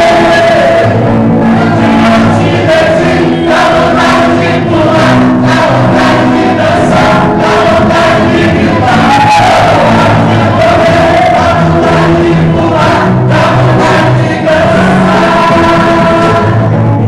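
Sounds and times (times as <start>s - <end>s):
congregation singing: 0.0s - 17.0s
music with steady beat: 0.0s - 17.0s.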